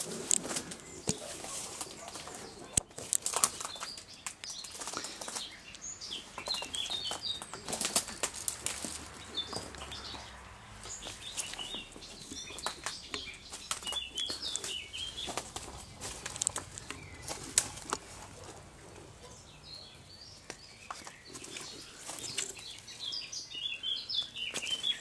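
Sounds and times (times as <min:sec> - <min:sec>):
branches and leaves rustling: 0:00.0 - 0:19.7, 0:20.3 - 0:23.4
songbirds chirping: 0:00.0 - 0:25.0.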